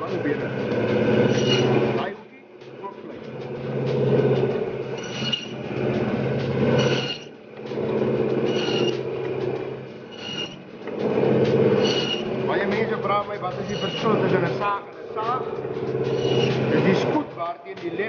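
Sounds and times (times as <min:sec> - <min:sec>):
bandsaw motor hum: 0:00.0 - 0:17.4
bandsaw rasping through meat: 0:00.2 - 0:02.2, 0:03.1 - 0:17.3.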